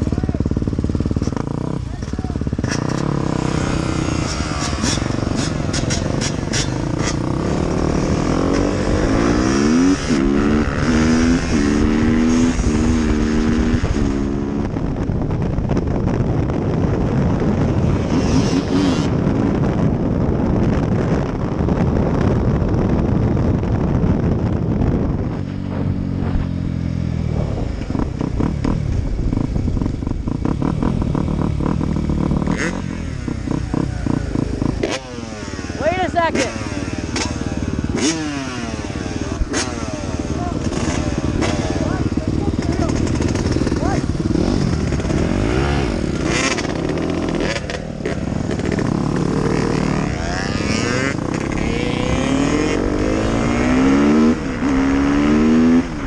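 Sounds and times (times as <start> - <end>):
dirt bike engine accelerating: 0.0 - 56.0
wind noise on microphone: 0.0 - 56.0.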